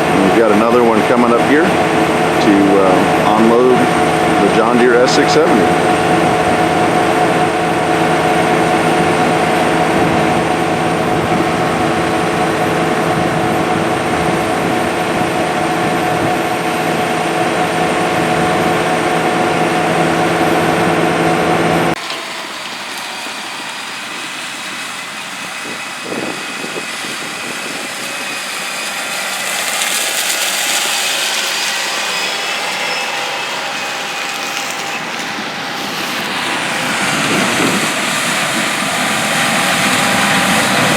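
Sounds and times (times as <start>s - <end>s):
diesel machinery engine drone: 0.0s - 40.9s
distant machine hum: 0.0s - 40.9s
faint high whine: 0.0s - 40.9s.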